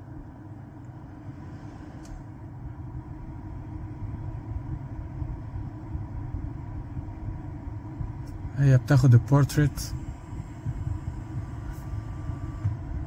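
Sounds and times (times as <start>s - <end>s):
faint steady whine: 0.0s - 13.0s
low background rumble: 0.0s - 13.0s.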